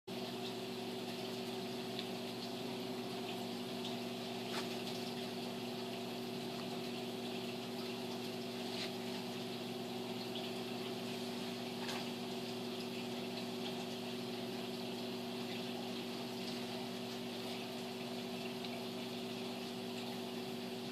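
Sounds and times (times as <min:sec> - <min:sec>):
aquarium pumps humming: 0:00.1 - 0:20.9
circulating water rushing: 0:00.1 - 0:20.9.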